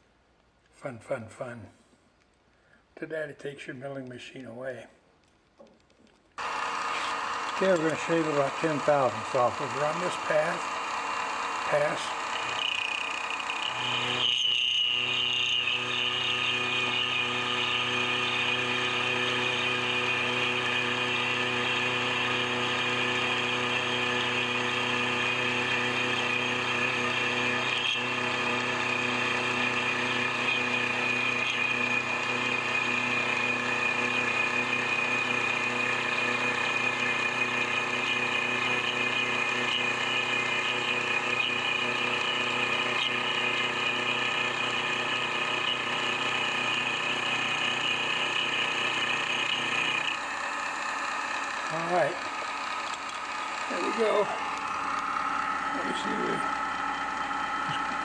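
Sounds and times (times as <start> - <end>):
milling machine cutting metal whine: 6.4 - 58.0.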